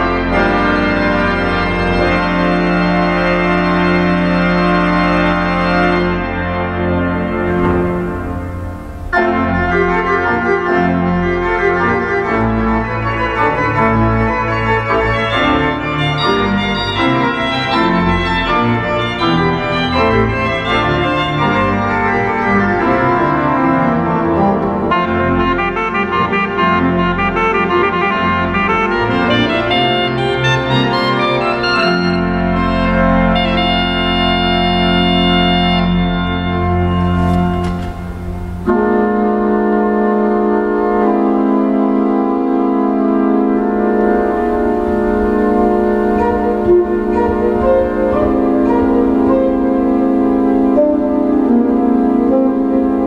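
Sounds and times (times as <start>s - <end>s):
pipe organ playing chords: 0.0s - 53.0s.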